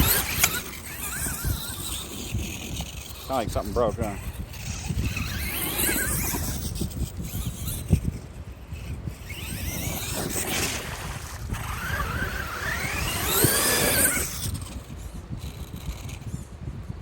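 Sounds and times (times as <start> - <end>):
toy truck motor whining: 0.0 - 16.6.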